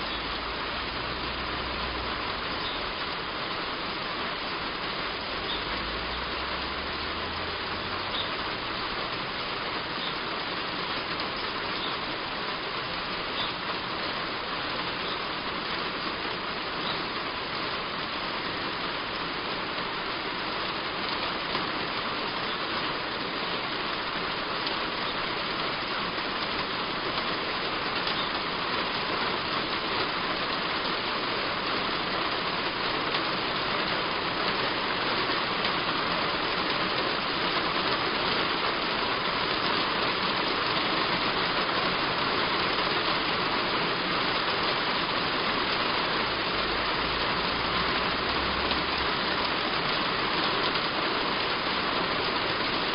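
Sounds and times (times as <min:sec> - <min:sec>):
heavy rain on a roof: 0:00.0 - 0:52.9.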